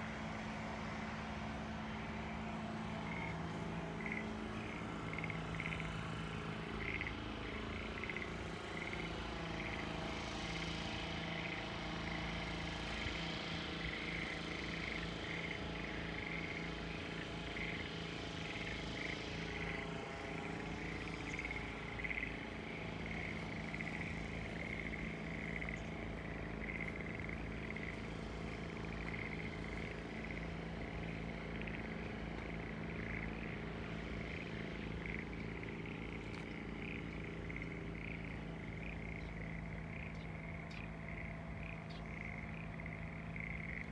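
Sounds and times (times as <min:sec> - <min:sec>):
frogs croaking in chorus: 0:00.0 - 0:43.9
steady low hum: 0:00.0 - 0:43.9.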